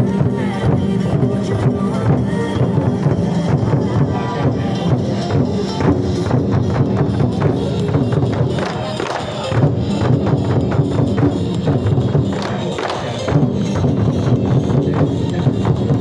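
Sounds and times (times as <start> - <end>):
music with driving drum beat: 0.0 - 16.0.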